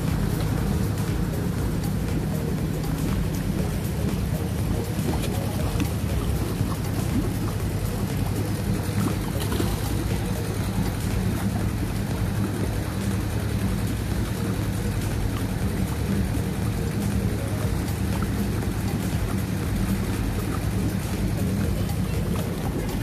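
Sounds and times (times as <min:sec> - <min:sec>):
motor droning: 0:00.0 - 0:23.0
rushing water: 0:00.0 - 0:23.0.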